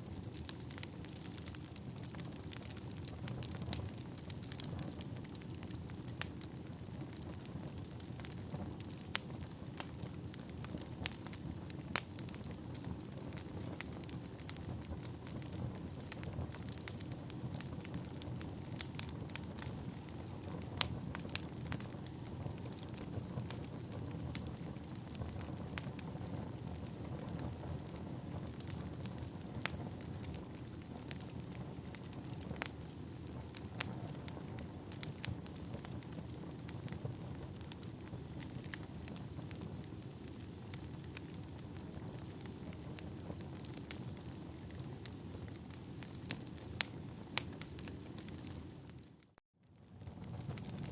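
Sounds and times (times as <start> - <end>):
firewood crackling and popping: 0.0 - 50.9
low rumble of flames: 0.0 - 50.9.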